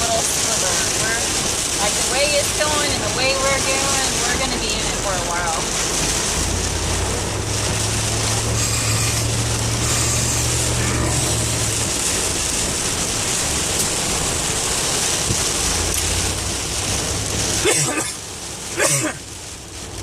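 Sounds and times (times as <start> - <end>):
heavy rain on car: 0.0 - 20.0
road noise inside car: 0.0 - 20.0
low engine drone: 1.8 - 18.1.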